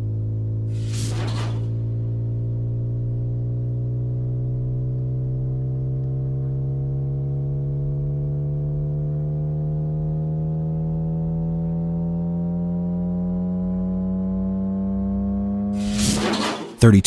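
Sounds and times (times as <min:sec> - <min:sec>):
simulated car engine accelerating: 0:00.0 - 0:17.0.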